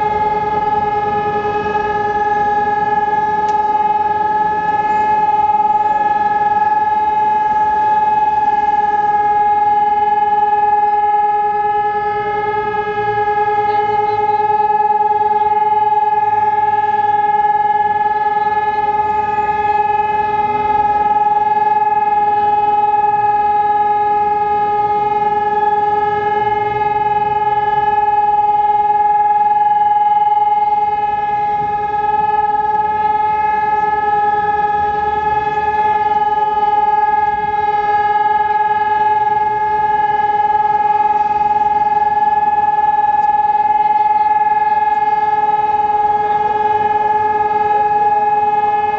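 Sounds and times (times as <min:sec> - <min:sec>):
warning sirens steady tone: 0:00.0 - 0:48.9.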